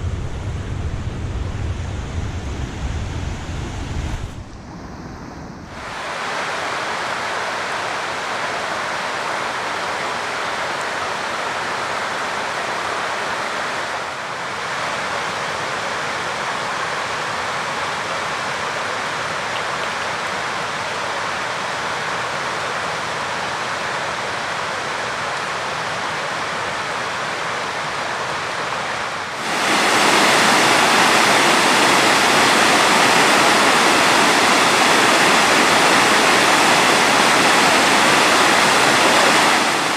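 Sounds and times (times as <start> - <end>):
stream water rushing over rapids: 5.8 - 39.9.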